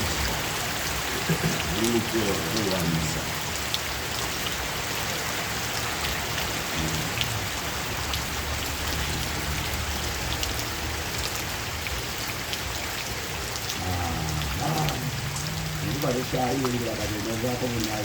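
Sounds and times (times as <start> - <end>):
sharp water drips: 0.0 - 18.0
steady rain hiss: 0.0 - 18.0.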